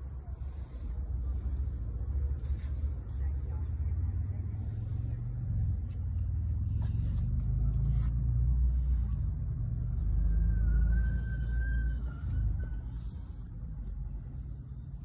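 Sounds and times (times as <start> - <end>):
engine idling with low rumble: 0.0 - 15.0.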